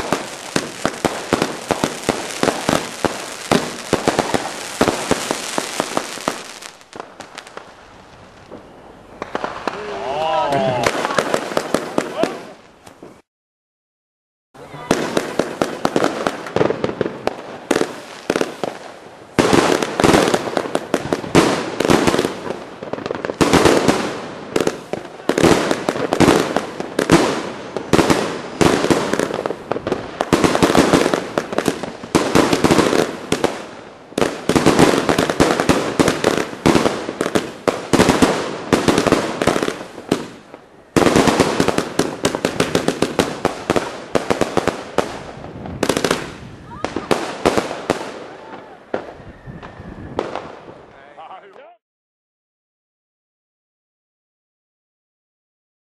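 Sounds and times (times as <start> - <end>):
firework volleys crackling: 0.0 - 13.3, 14.6 - 51.4.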